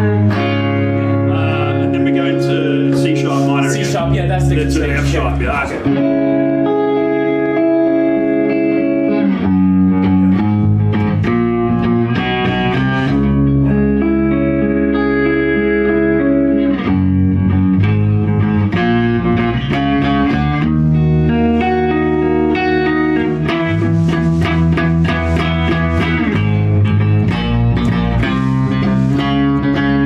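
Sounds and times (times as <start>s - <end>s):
bass line: 0.0s - 30.0s
electric guitar chords: 0.0s - 30.0s.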